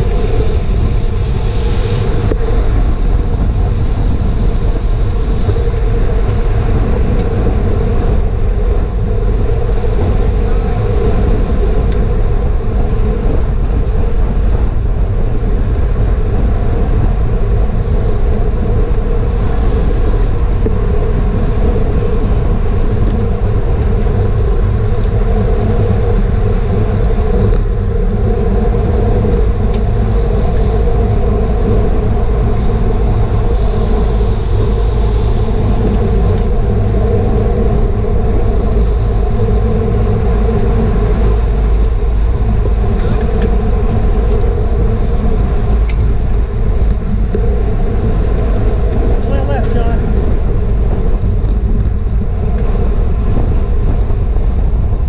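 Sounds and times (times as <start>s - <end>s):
tyres humming on pavement: 0.0s - 55.0s
wind rumble on microphone: 0.0s - 55.0s.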